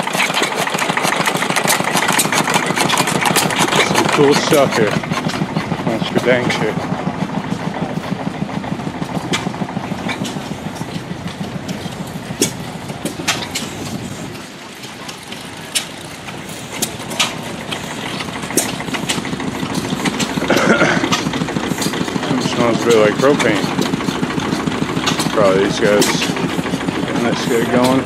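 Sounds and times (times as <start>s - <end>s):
small gasoline engines running: 0.0s - 28.0s.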